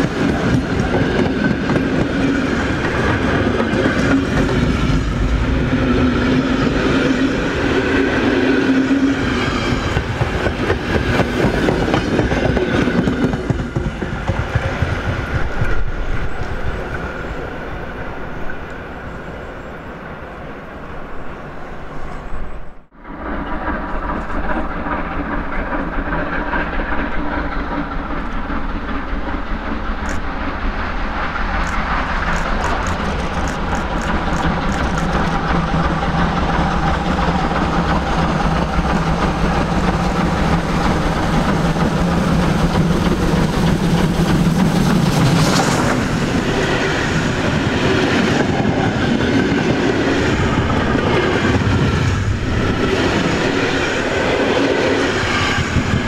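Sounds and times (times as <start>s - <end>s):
train wheels clicking over rails: 0.0s - 17.1s, 23.1s - 56.0s
steam locomotive passing: 0.0s - 56.0s.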